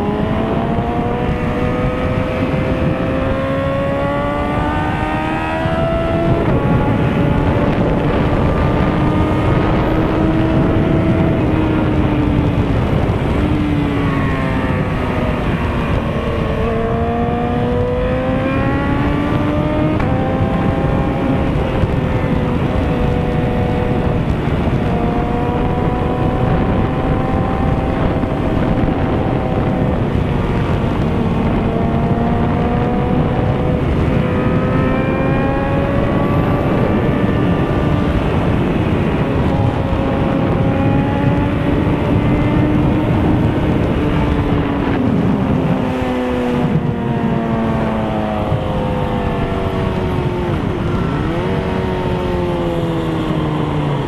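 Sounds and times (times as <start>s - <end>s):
motorcycle engine revving through gears: 0.0s - 54.0s
wind rush: 0.0s - 54.0s.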